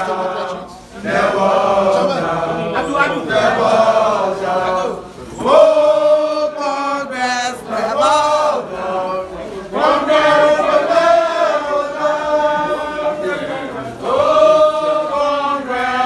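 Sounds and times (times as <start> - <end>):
group chanting in unison: 0.0 - 16.0.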